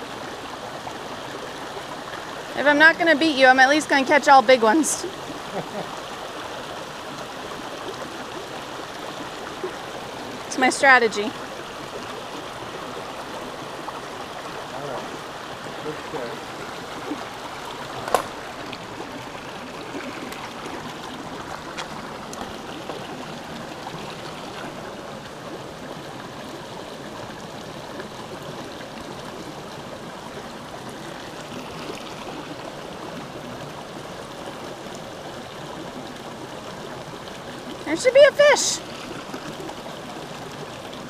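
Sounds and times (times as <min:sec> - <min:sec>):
stream running over rocks: 0:00.0 - 0:41.0.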